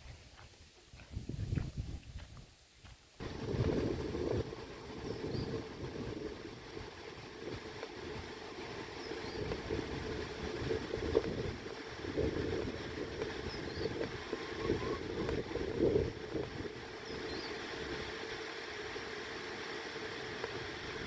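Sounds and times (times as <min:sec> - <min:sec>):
wind buffeting microphone: 0:00.0 - 0:02.5, 0:03.2 - 0:18.2.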